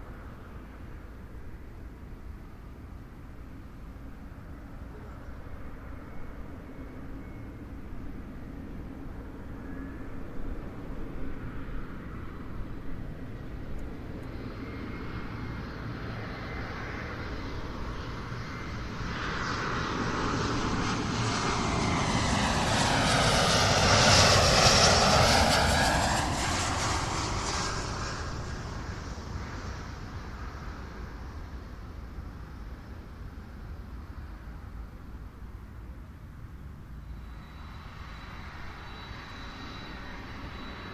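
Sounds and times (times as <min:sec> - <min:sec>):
jet airliner flying overhead: 0:00.0 - 0:40.9.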